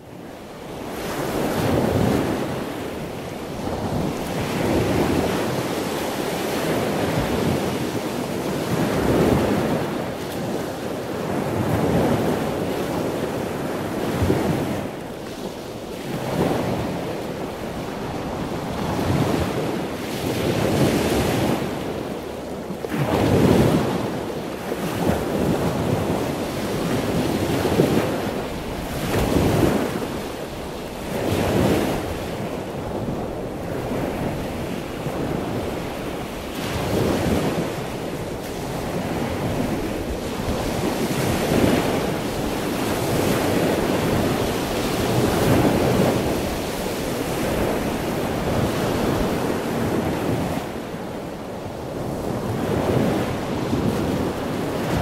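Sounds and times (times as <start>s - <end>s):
waves washing and slapping: 0.0s - 55.0s
wind buffeting microphone: 0.0s - 55.0s.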